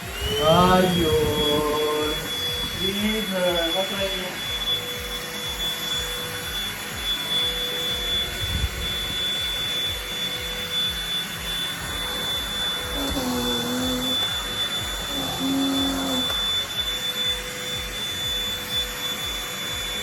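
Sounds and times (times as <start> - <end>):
handheld vacuum cleaner whine: 0.0 - 20.0.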